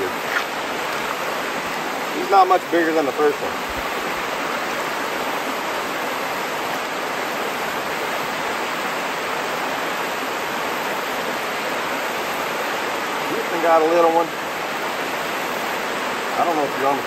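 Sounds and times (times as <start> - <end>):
creek water rushing over dam: 0.0 - 17.0.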